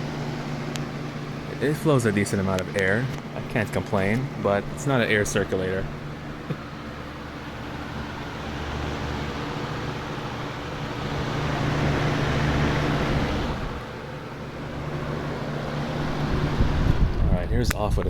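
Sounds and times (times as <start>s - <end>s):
box fan running: 0.0s - 18.0s.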